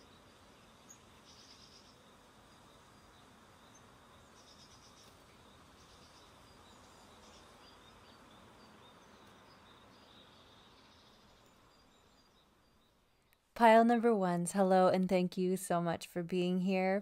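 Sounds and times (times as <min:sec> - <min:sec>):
faint high-pitched chirps and trills: 0:00.0 - 0:13.6.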